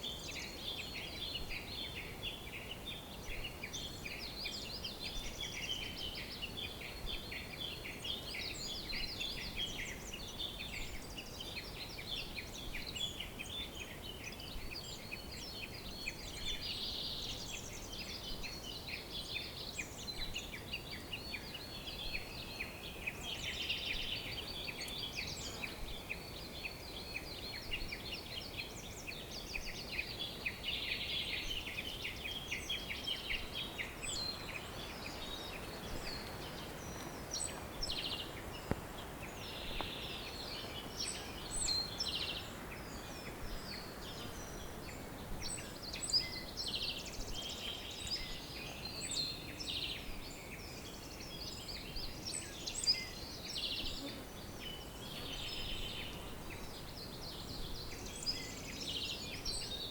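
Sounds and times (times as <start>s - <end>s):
faint steady hiss: 0.0s - 59.9s
small birds chirping: 0.0s - 59.9s.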